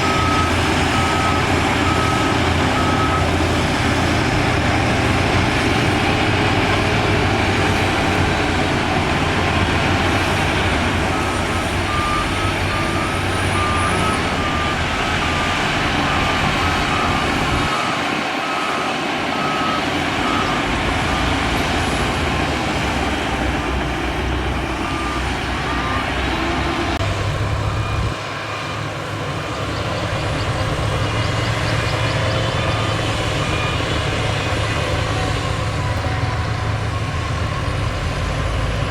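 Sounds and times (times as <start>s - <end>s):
reversing alarm beeping: 0.0s - 7.5s, 9.3s - 22.0s, 24.8s - 38.8s
diesel machinery running: 0.0s - 38.9s.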